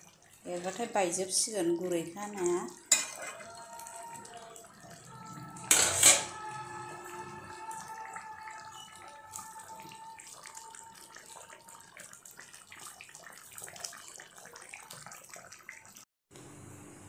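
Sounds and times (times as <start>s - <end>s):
curry bubbling in a pan: 0.0s - 5.7s, 6.4s - 16.1s.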